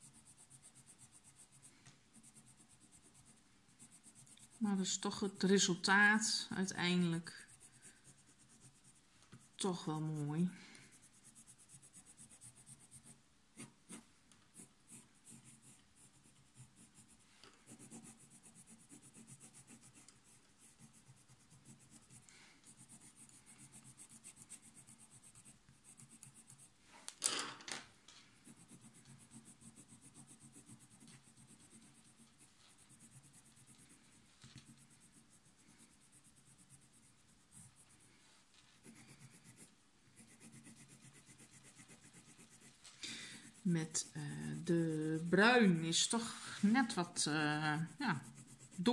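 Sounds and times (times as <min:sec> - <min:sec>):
pencil scratching on paper: 0:00.0 - 0:26.8, 0:28.3 - 0:48.9.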